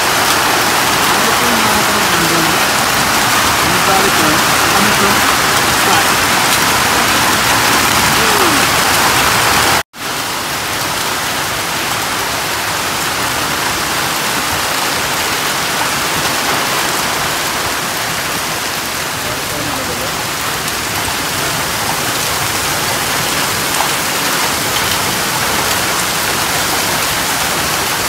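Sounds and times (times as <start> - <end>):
hail and heavy rain pelting: 0.0 - 28.0.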